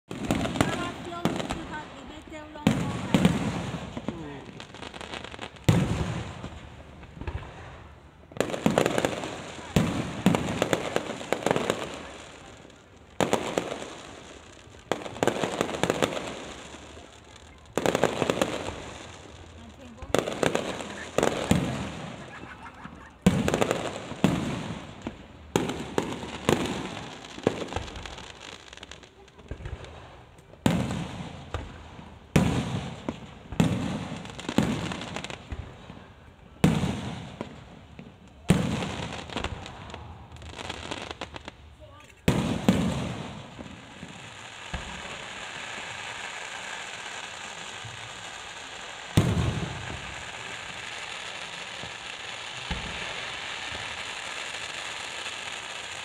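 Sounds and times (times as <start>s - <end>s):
fireworks crackling pops: 0.0s - 56.0s.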